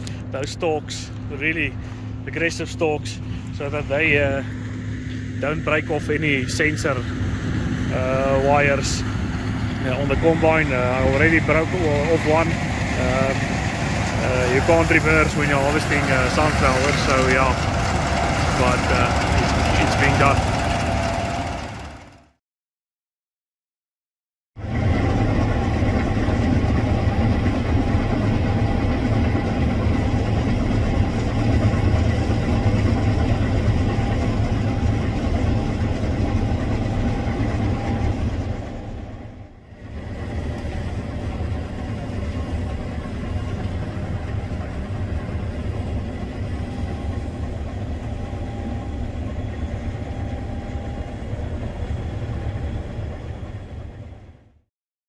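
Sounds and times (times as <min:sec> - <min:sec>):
faint high whine: 0:00.0 - 0:21.8, 0:24.8 - 0:54.4
combine harvester drone: 0:00.0 - 0:22.3, 0:24.6 - 0:54.6.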